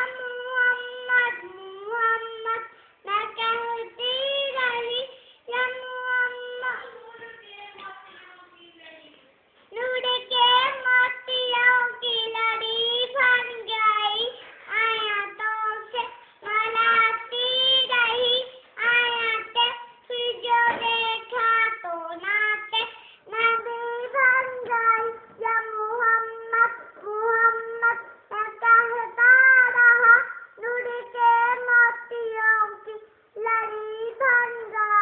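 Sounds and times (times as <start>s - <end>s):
child singing unaccompanied: 0.0s - 35.0s.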